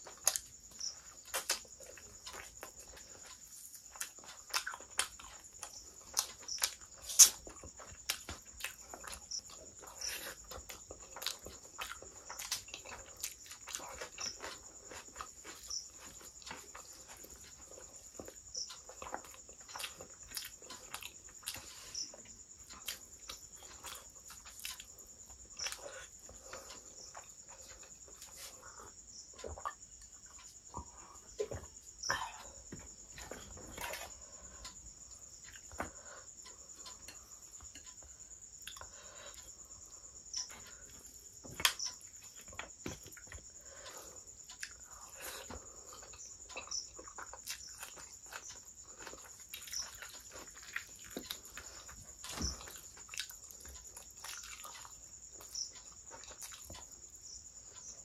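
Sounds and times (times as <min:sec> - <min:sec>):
wet chewing and smacking: 0:00.0 - 0:32.0, 0:32.6 - 0:58.0.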